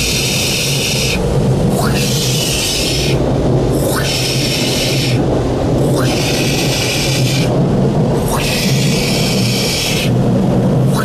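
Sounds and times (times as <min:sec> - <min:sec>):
air dryer blowers droning: 0:00.0 - 0:11.0
hissing whooshes of air: 0:00.0 - 0:11.0.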